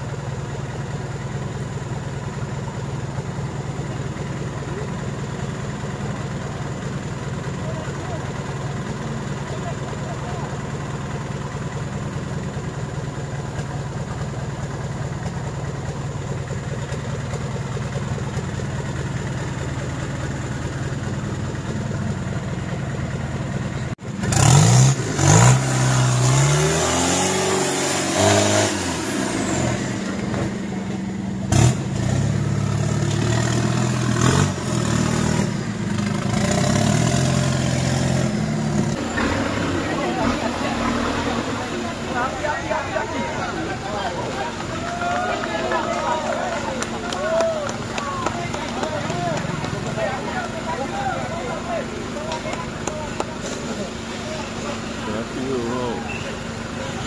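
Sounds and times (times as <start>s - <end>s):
off-road engine revving: 2.8s - 57.0s.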